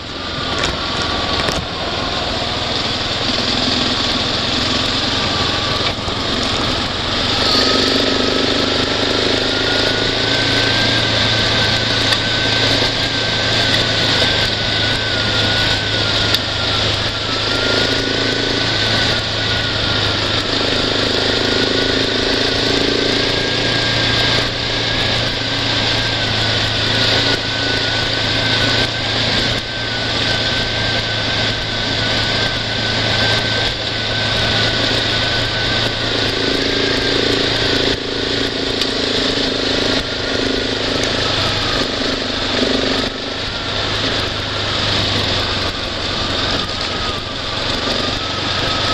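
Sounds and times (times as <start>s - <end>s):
off-road vehicle engine whine: 0.0s - 48.9s
wind and tyres on dirt road: 0.0s - 48.9s.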